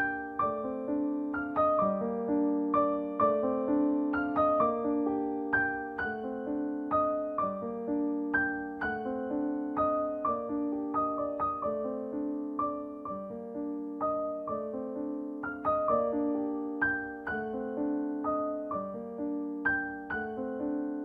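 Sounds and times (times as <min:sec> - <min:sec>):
slow piano notes: 0:00.0 - 0:21.0.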